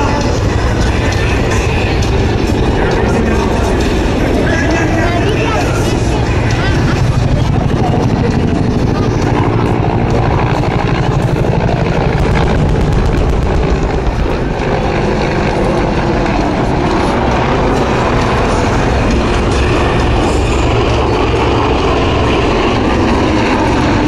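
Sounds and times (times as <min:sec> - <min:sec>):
helicopter flying low: 0:00.0 - 0:24.0.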